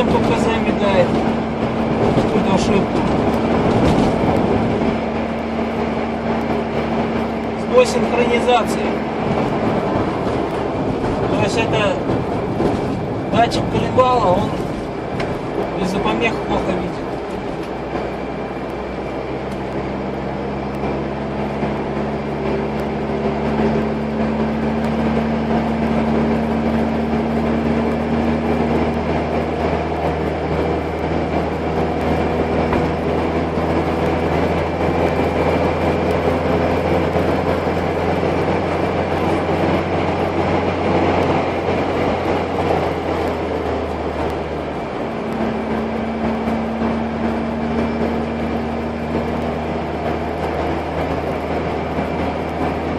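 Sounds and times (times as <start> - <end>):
car engine drone: 0.0 - 52.9
road noise: 0.0 - 52.9.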